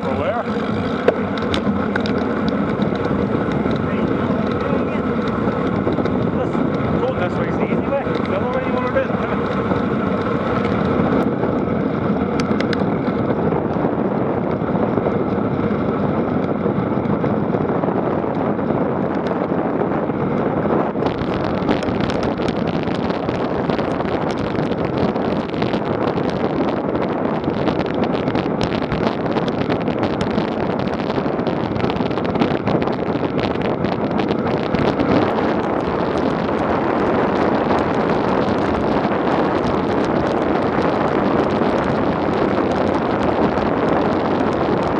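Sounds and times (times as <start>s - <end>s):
bike rattling over rough ground: 0.0s - 44.9s
wind on microphone: 0.0s - 44.9s.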